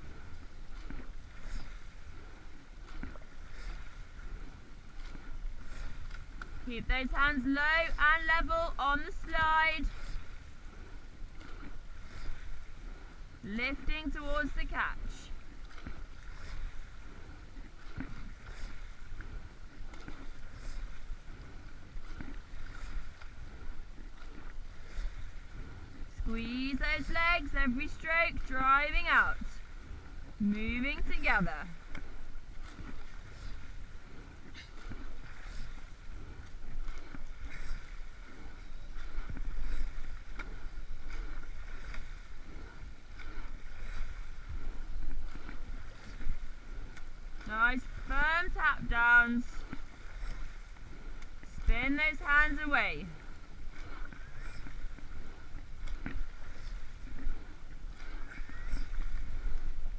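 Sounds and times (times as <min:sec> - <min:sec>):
oars knocking: 0:00.0 - 0:59.6
water rushing along hull: 0:00.0 - 0:59.9.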